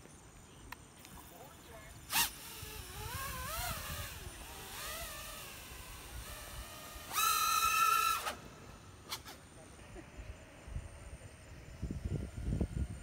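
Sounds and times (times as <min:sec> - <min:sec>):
quadcopter motors whining: 0:01.0 - 0:13.0.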